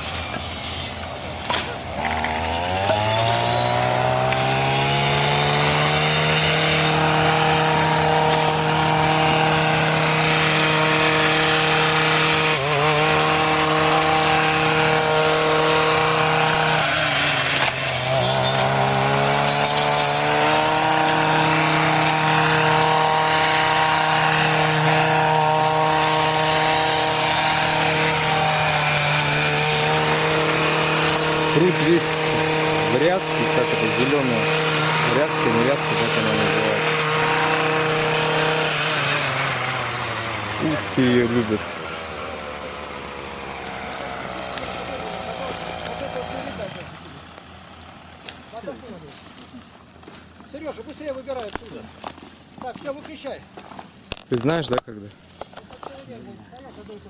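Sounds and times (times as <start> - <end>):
brushcutter running at high revs: 0.0 - 57.0.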